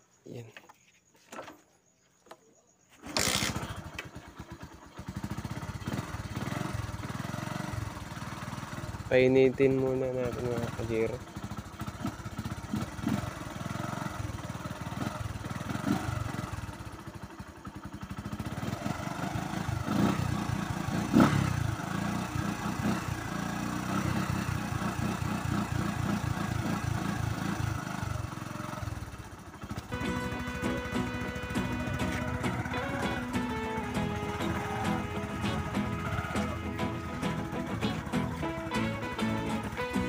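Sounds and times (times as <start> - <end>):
motorcycle engine idling: 3.0 - 40.0.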